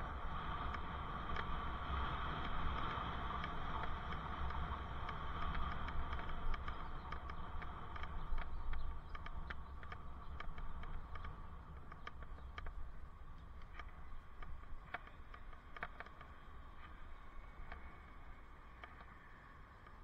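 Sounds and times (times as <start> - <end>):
low wind: 0.0 - 20.0
road rumble: 0.0 - 20.0
small clicks and rattles: 0.0 - 20.0.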